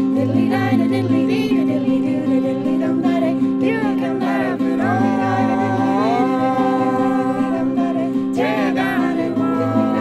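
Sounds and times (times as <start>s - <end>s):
person singing long held notes: 0.0s - 10.0s
plucked string accompaniment: 0.0s - 10.0s.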